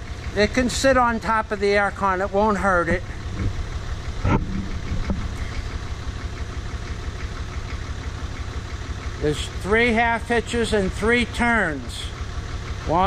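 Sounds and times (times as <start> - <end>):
backhoe engine idling: 0.0 - 13.0.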